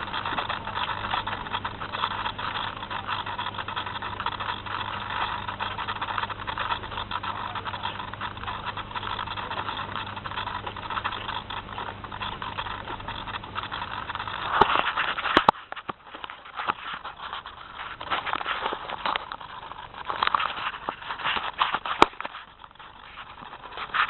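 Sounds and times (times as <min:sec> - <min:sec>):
model plane motor humming: 0:00.0 - 0:24.0.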